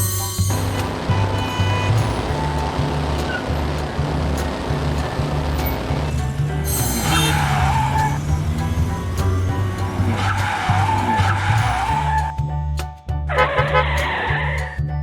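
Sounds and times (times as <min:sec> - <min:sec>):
background music with bass beat: 0:00.0 - 0:15.0
car tyres screeching: 0:00.6 - 0:12.4, 0:13.3 - 0:14.8.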